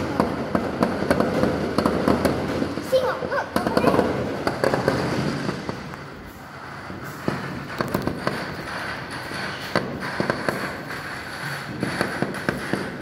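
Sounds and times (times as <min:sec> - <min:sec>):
distant fireworks cracking: 0:00.0 - 0:13.0.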